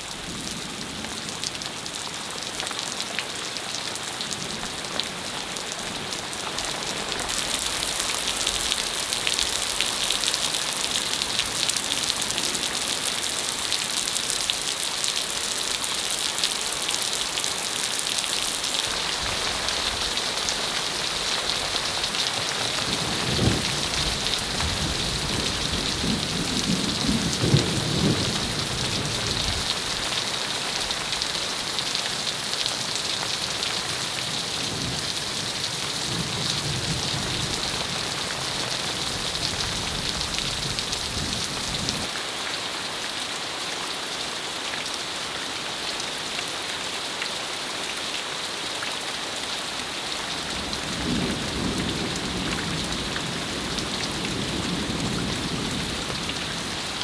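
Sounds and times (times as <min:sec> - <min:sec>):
rain and hail hissing: 0:00.0 - 0:57.0.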